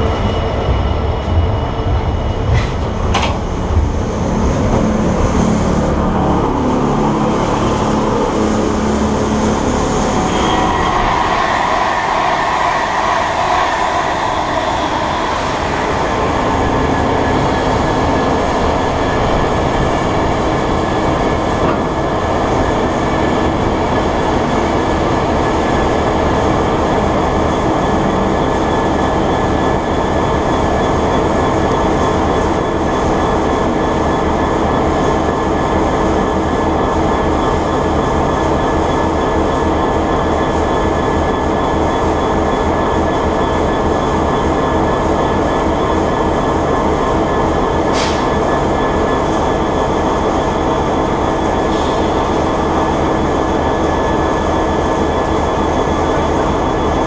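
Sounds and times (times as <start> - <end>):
high whine: 3.3 - 57.0.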